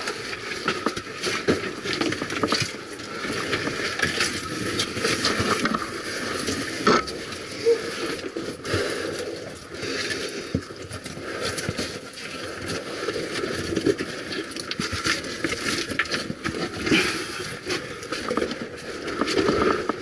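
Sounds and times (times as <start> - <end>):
clicks of grit and stones: 0.0 - 20.0.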